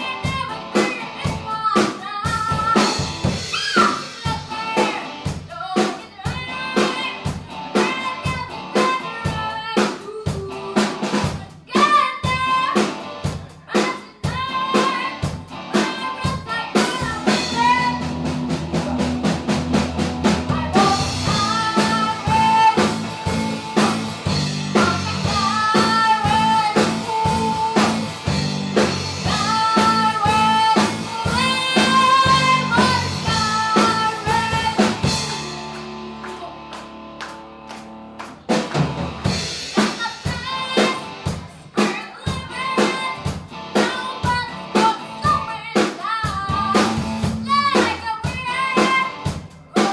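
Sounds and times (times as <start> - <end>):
person singing: 0.0 - 19.2, 20.4 - 28.2, 28.8 - 36.9, 39.8 - 49.9
drum kit steady beat: 0.0 - 49.9
live band playing: 0.0 - 49.9.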